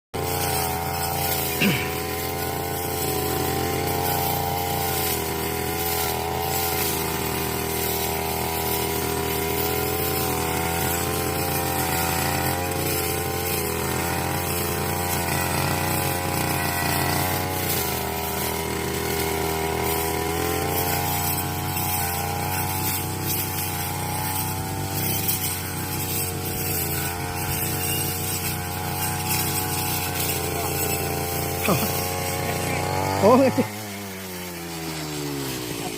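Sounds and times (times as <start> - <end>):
brush cutter engine running: 0.2 - 35.9.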